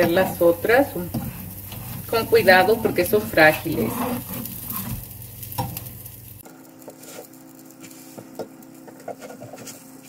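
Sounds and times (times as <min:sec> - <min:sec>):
patties sizzling in a frying pan: 0:00.0 - 0:10.0.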